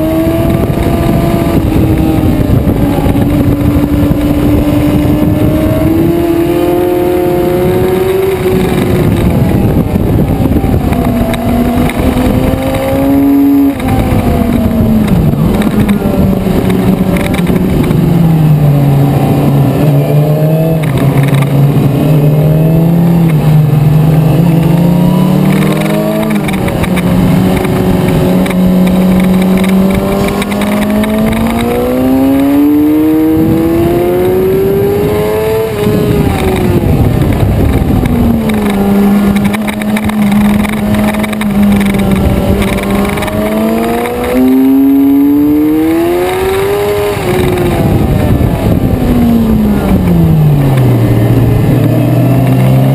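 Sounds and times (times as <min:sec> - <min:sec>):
motorcycle engine revving: 0:00.0 - 0:52.9
wind noise: 0:00.0 - 0:52.9.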